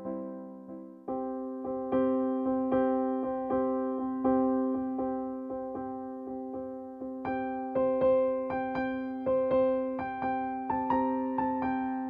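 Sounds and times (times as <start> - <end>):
slow keyboard music: 0.0 - 12.0.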